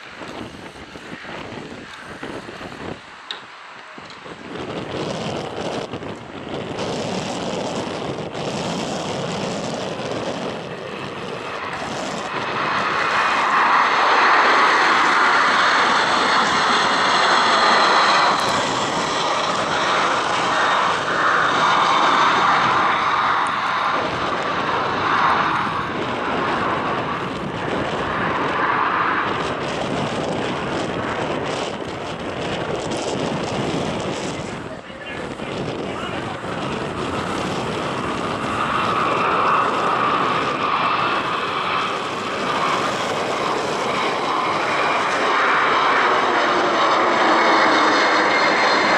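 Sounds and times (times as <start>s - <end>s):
jet engines at takeoff: 0.0s - 48.9s.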